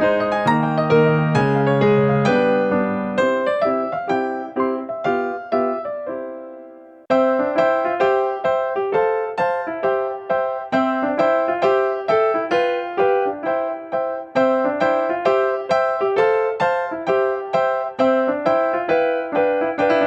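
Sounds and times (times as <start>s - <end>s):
electric piano tune: 0.0s - 20.0s.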